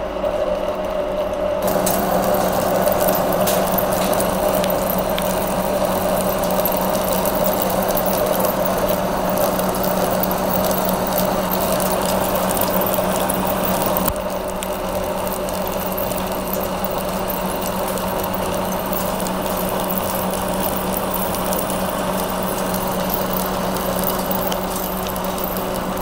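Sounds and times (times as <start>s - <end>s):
lathe humming under load: 1.6s - 26.0s
metal chips crackling and tinkling: 1.6s - 26.0s.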